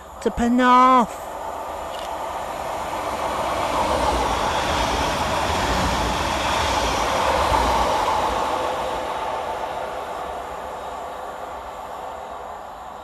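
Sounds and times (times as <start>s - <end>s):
train passing fast: 0.0s - 13.0s.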